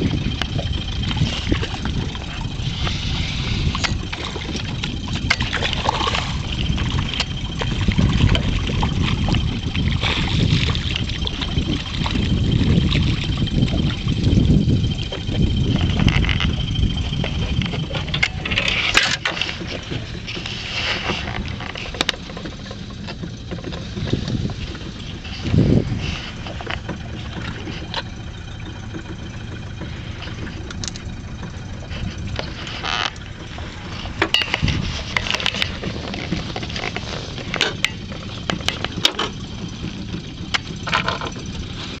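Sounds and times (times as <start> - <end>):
knocks and clicks on boat deck: 0.0 - 41.8
boat rumble: 0.0 - 42.0
wind: 0.0 - 42.0.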